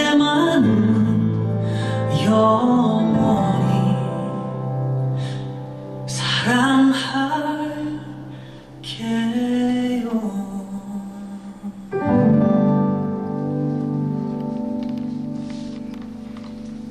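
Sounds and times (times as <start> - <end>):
person singing a ballad: 0.0 - 15.8
live musical accompaniment: 0.0 - 16.9.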